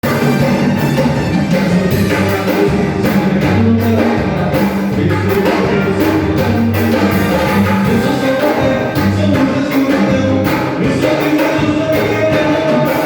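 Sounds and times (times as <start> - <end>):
band rehearsing: 0.0 - 13.0
drum kit beat: 0.0 - 13.0.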